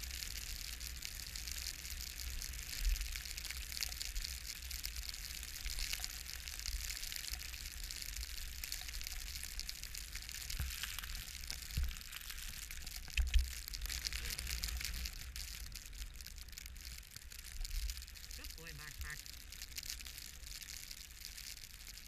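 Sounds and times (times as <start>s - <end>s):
hiss of snow crackling: 0.0s - 22.0s.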